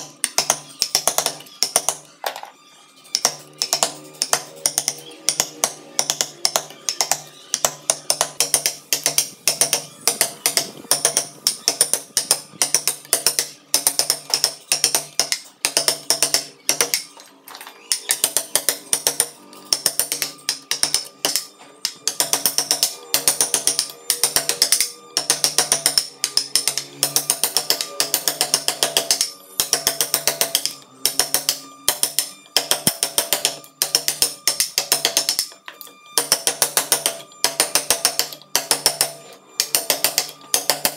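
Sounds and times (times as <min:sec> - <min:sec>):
mallet striking chisel into wood: 0:00.0 - 0:02.1, 0:03.1 - 0:17.1, 0:17.9 - 0:35.6, 0:36.2 - 0:40.9.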